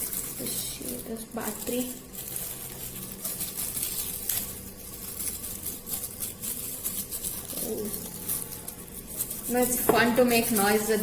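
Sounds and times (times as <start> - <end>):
packaging crackling and rustling: 0.0 - 11.0.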